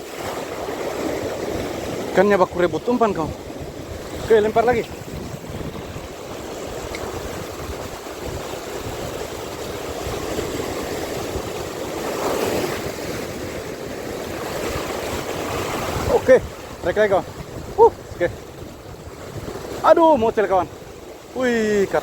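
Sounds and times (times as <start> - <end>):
sea waves: 0.0 - 22.0
wind: 0.0 - 22.0.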